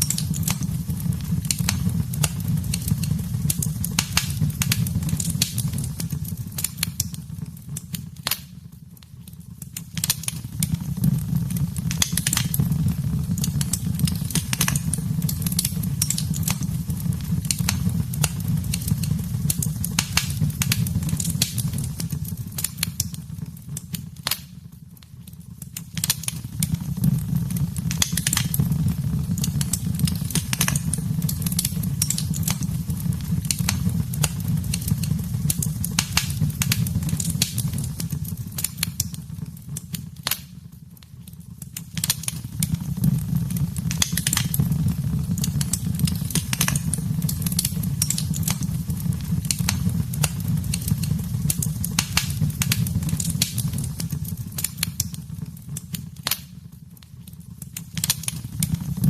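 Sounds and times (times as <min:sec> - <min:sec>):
fire pops and snaps: 0:00.0 - 0:59.0
flames rumbling: 0:00.0 - 0:59.0.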